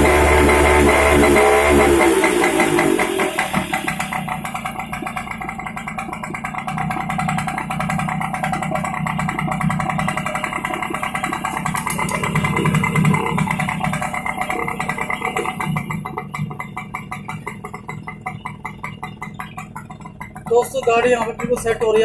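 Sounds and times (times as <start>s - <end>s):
moped engine running: 0.0s - 22.0s.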